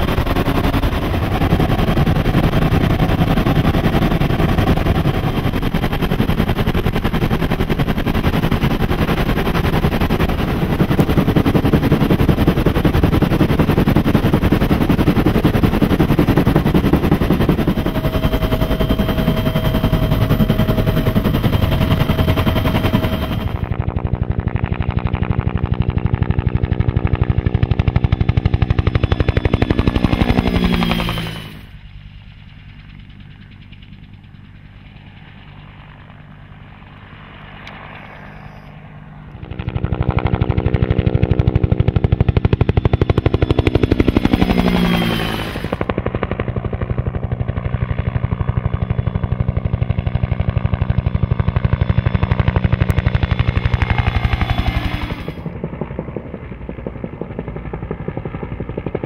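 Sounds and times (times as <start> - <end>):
helicopter rotor blade slap: 0.0 - 36.5, 38.8 - 46.8, 50.7 - 59.0.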